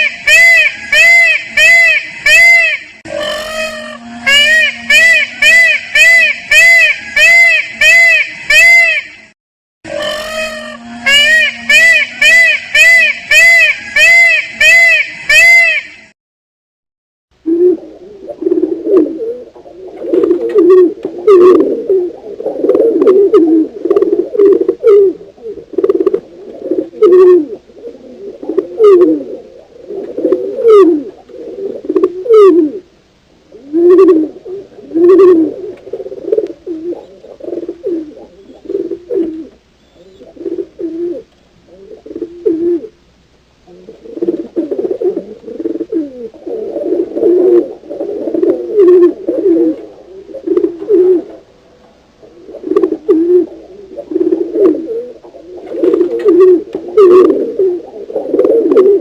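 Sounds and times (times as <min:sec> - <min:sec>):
pigeons cooing: 0:00.0 - 0:09.1, 0:09.9 - 0:15.2, 0:17.4 - 0:43.0, 0:43.6 - 0:59.0.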